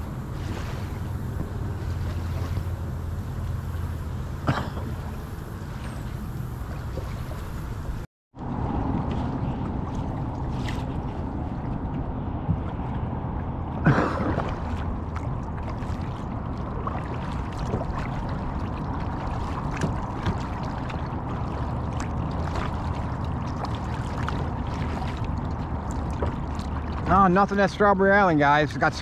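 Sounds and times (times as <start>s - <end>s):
water splash: 0.0s - 8.0s, 8.9s - 11.8s, 13.8s - 29.0s
water lapping against hull: 0.0s - 29.0s.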